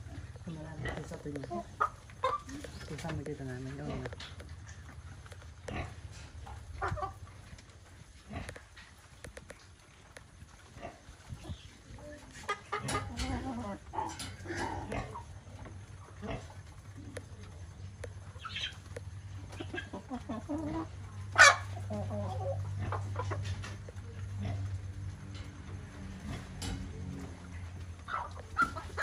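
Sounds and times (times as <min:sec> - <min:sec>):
chickens clucking: 0:00.0 - 0:29.0
chickens pecking feed: 0:00.0 - 0:29.0.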